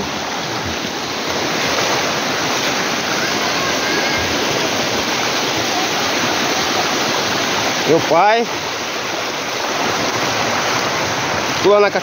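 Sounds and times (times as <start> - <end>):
water rushing down rocks: 0.0 - 12.0.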